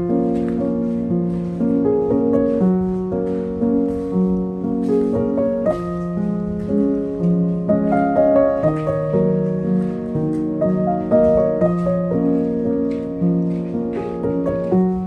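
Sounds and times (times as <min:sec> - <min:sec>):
background piano music: 0:00.0 - 0:15.0.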